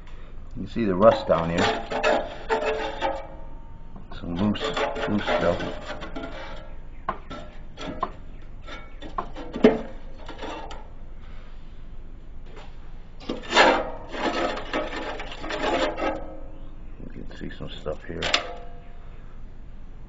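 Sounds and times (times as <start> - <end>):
metal scraping: 0.0 - 11.4, 12.5 - 16.7, 17.3 - 19.0.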